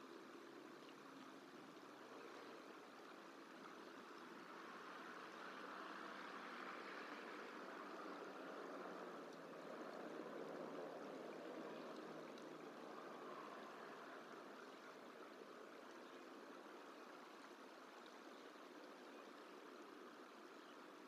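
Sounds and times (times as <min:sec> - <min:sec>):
faint rushing water: 0:00.0 - 0:21.0.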